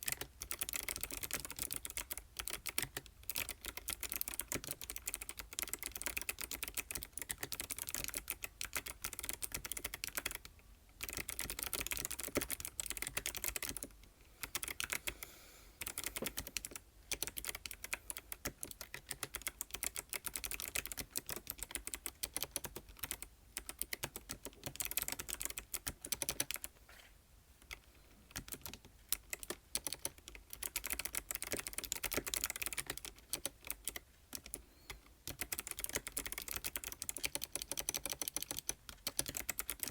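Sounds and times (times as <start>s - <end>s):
mechanical keyboard typing: 0.0s - 15.2s, 15.8s - 26.7s, 27.6s - 39.9s.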